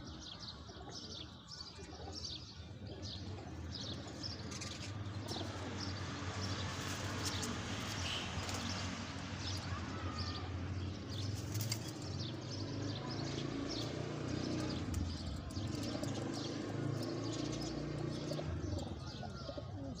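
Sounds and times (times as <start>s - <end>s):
pigeons cooing: 1.8s - 8.8s, 10.7s - 20.0s.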